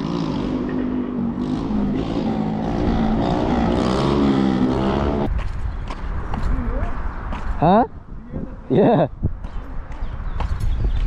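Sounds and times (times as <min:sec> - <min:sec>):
low engine or wind rumble: 0:00.0 - 0:11.0.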